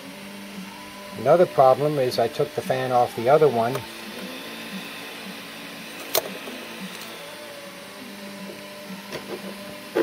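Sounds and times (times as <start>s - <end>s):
machine hum with faint whine: 0.0s - 10.0s.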